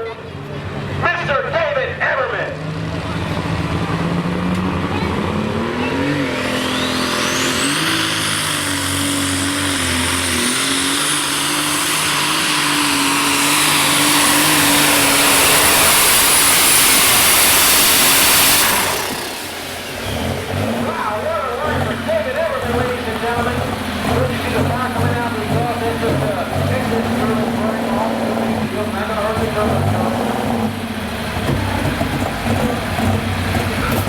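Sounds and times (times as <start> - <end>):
tractor engine revving: 0.0 - 34.0
turbocharger whine: 0.0 - 34.0.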